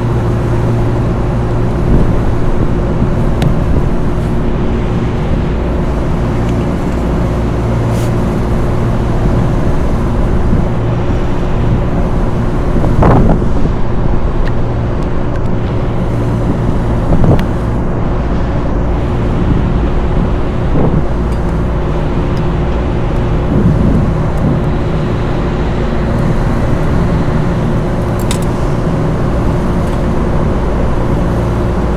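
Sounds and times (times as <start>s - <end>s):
hvac equipment humming: 0.0s - 31.9s.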